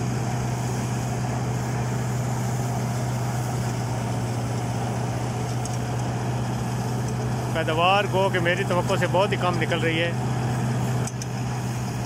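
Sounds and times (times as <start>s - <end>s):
thresher rushing noise: 0.0s - 12.0s
tractor engine drone: 0.0s - 12.0s.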